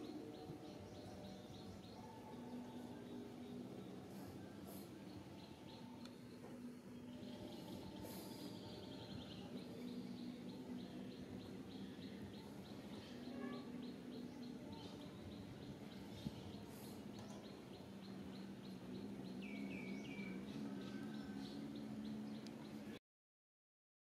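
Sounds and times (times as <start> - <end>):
bird chirping: 0.0 - 23.0
low steady hum: 0.0 - 23.0.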